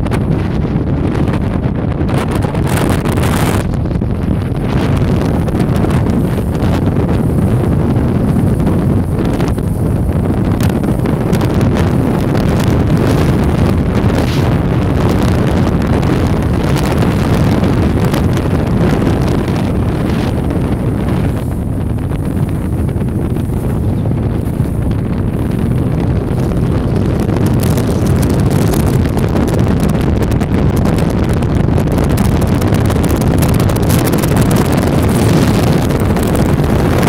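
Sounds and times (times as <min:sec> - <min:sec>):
boat engine low rumble: 0:00.0 - 0:37.0
wind buffeting microphone: 0:00.0 - 0:37.0.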